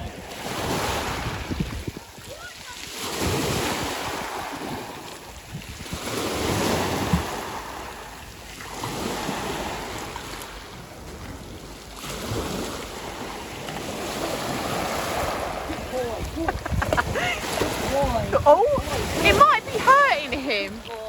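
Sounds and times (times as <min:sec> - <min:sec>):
sea waves breaking: 0:00.0 - 0:21.0
wind buffeting microphone: 0:00.0 - 0:21.0.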